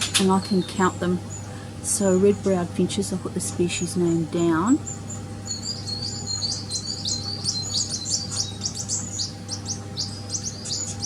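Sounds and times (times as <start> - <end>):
steady low hum: 0.0 - 11.0
small birds chirping: 0.2 - 11.0.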